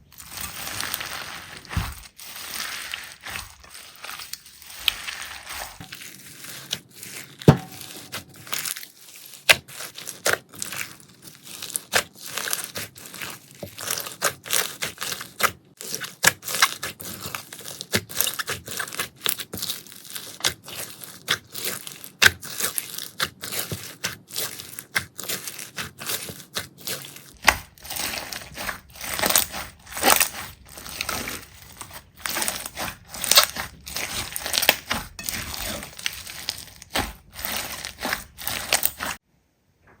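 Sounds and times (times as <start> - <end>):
slime crackling and popping: 0.0 - 39.2.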